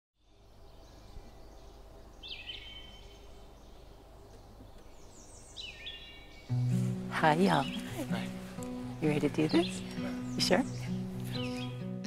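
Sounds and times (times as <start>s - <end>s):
birds chirping: 0.2s - 12.0s
faint outdoor background: 0.2s - 12.0s.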